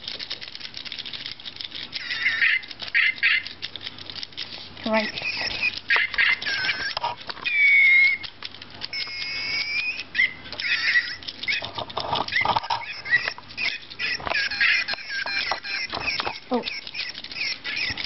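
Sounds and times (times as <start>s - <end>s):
small clicks and clatters: 0.0s - 18.0s
robot toys chirping and beeping: 0.6s - 18.0s.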